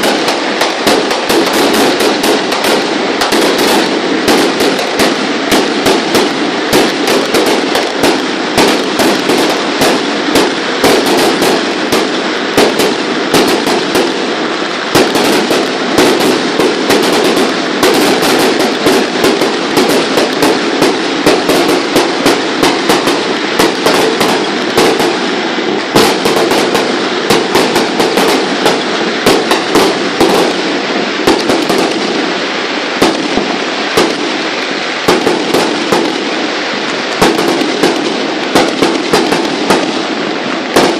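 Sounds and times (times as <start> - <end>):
firecrackers crackling: 0.0 - 40.9.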